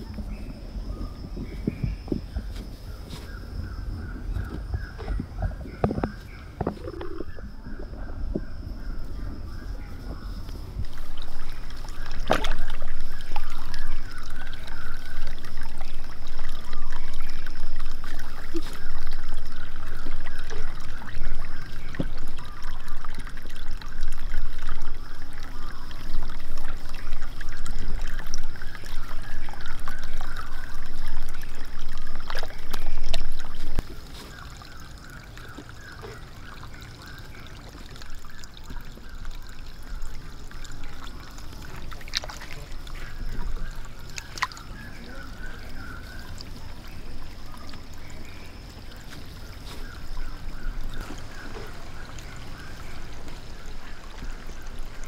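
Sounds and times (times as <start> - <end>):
fountain water splashing into pond: 9.5 - 55.0.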